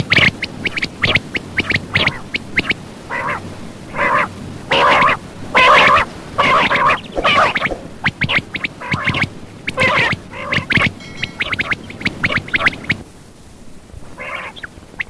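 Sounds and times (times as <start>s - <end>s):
quail chirping and gurgling: 0.0s - 13.0s, 14.2s - 15.0s.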